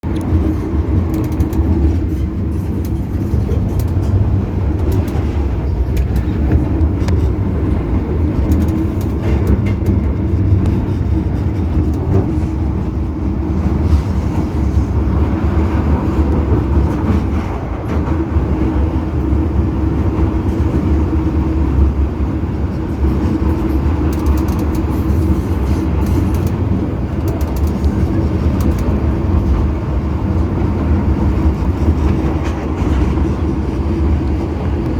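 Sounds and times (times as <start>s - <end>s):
metro train rumble: 0.0s - 34.9s
train clicks: 0.0s - 34.9s.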